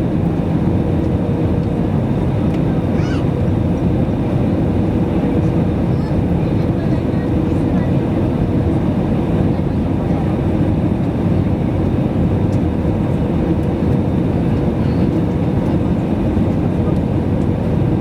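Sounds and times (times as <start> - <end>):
aircraft cabin low rumble: 0.0 - 18.0.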